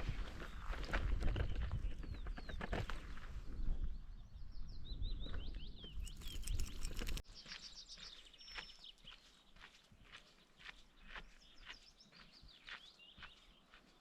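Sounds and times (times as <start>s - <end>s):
footsteps on a trail: 0.0s - 3.4s, 5.3s - 14.0s
songbird chirping: 0.0s - 14.0s.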